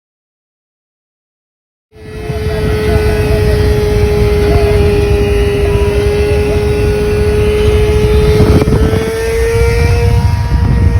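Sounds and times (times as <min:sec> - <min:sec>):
vehicle engine running: 0:01.9 - 0:10.9
wind rumble on microphone: 0:02.0 - 0:10.9.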